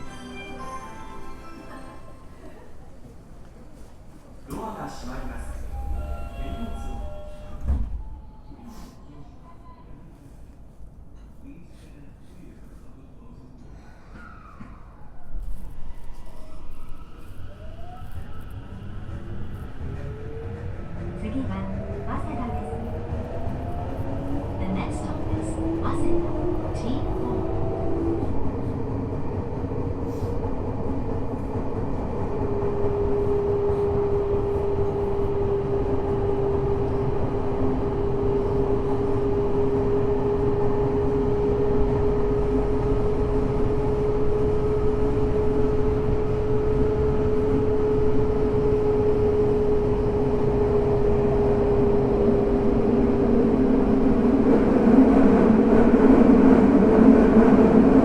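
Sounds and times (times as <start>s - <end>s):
subway train rumble in tunnel: 0.0s - 58.0s.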